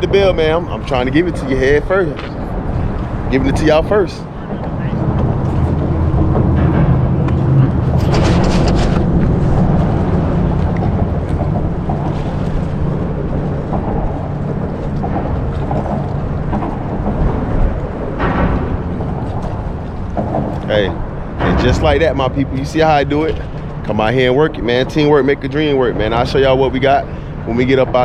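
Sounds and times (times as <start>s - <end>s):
boat motor rumbling: 0.0s - 28.0s.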